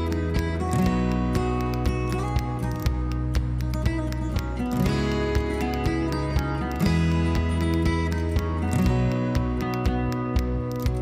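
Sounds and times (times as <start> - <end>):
held chords: 0.0 - 11.0
light percussive clicks: 0.0 - 11.0.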